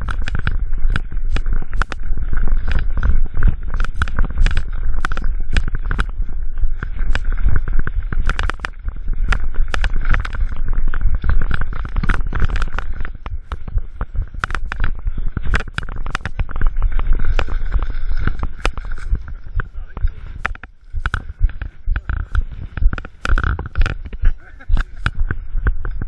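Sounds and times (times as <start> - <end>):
bike rattling over bumps: 0.0 - 26.0
bike tyres rumbling on dirt: 0.0 - 26.0.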